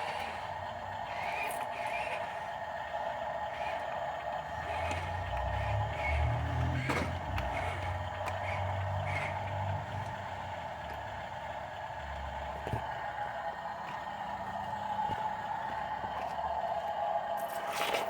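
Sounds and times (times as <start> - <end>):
dump truck engine whining: 0.0 - 18.0.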